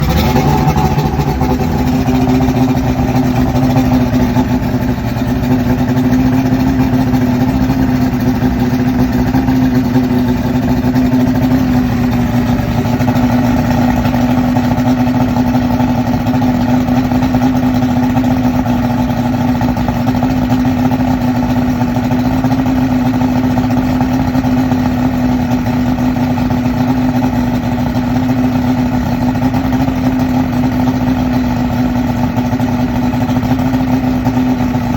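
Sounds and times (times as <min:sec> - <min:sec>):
outboard motor idling roughly: 0:00.0 - 0:34.9.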